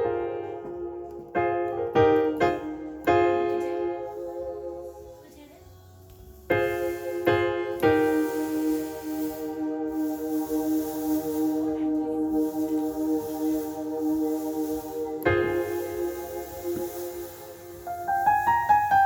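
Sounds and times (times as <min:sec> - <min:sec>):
faint high hiss: 0:00.0 - 0:19.0
keyboard piano chords: 0:00.0 - 0:19.0.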